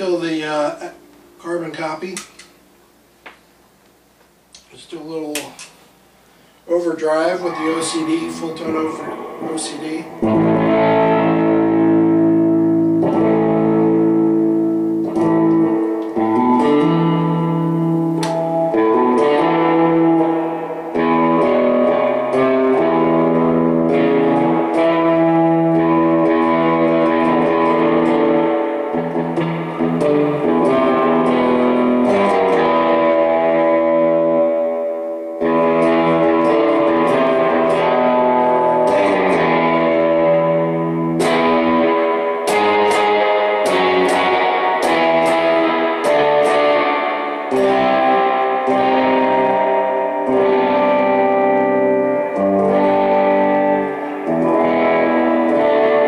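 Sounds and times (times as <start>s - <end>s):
overdriven electric guitar chords: 0.0s - 4.0s, 6.3s - 56.0s.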